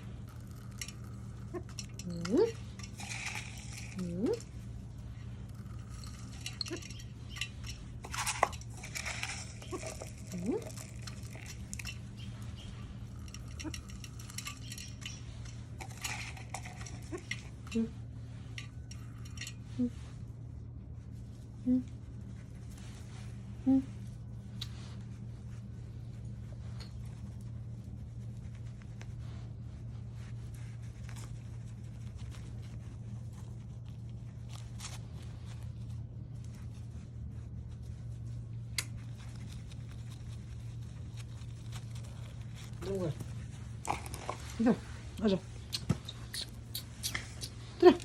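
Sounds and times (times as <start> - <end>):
rustling scratches: 0.0 - 48.0
steady low hum: 0.0 - 48.0.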